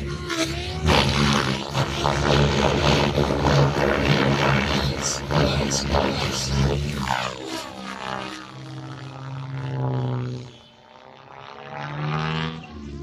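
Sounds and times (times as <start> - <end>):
rc helicopter rotor and motor drone: 0.0 - 13.0.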